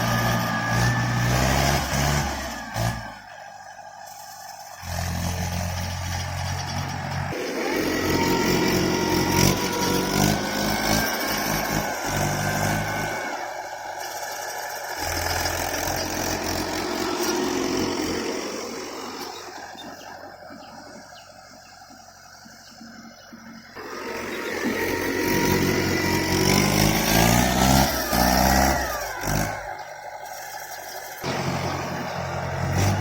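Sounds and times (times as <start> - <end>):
tractor engine running hard: 0.0 - 33.0.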